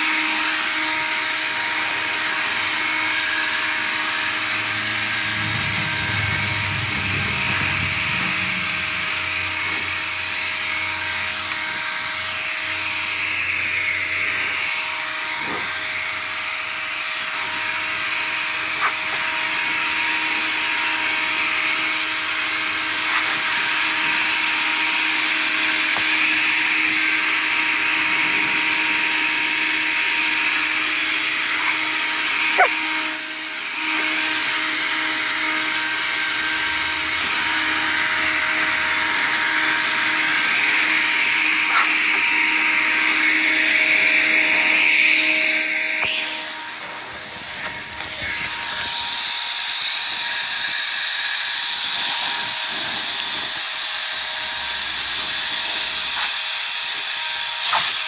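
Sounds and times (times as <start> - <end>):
leaf blower running: 0.0 - 58.0.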